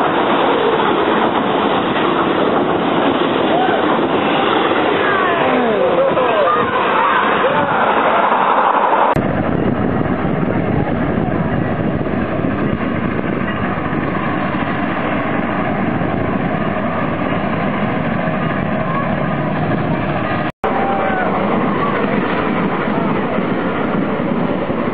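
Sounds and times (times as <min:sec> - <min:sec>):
steam locomotive running: 0:00.0 - 0:24.9.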